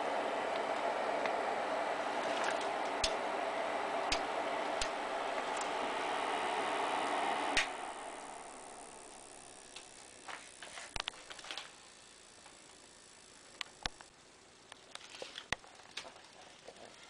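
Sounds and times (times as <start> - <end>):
cooling fan whooshing: 0.0 - 13.8.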